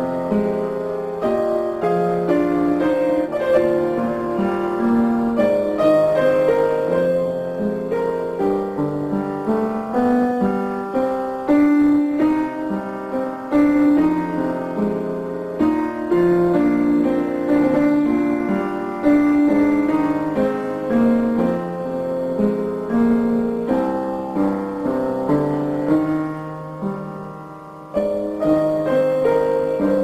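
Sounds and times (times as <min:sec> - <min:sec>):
slow piano music: 0:00.0 - 0:30.0.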